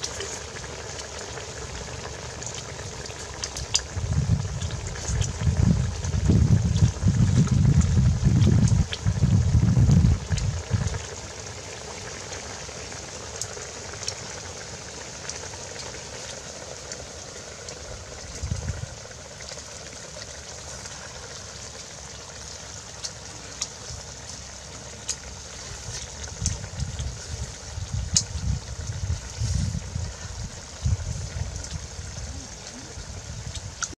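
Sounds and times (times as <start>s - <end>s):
soup boiling in a pot: 0.0s - 34.0s
wood fire crackling: 0.0s - 34.0s.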